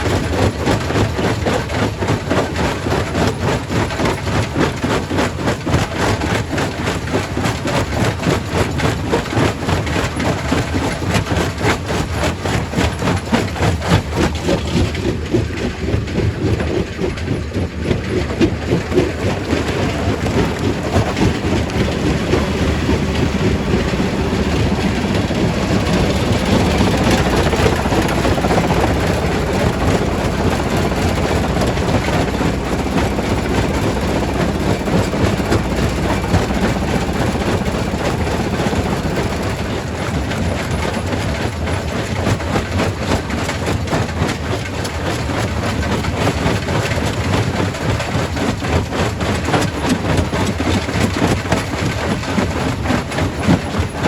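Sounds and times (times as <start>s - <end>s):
rock crusher rumble: 0.0s - 54.0s.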